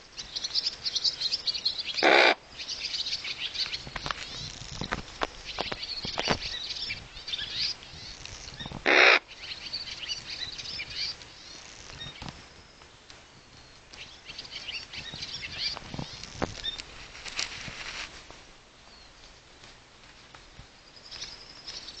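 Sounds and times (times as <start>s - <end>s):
small birds chirping: 0.0s - 16.9s, 20.3s - 22.0s.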